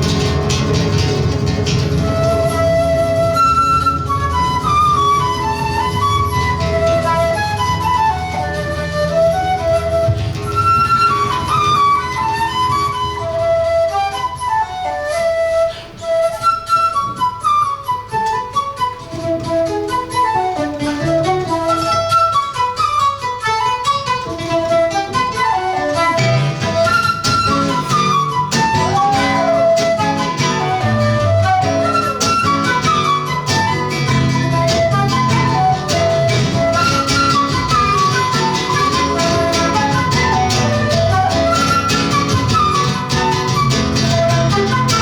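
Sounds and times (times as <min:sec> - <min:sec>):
flute melody: 0:00.0 - 0:45.0
plucked guitar accompaniment: 0:00.0 - 0:45.0.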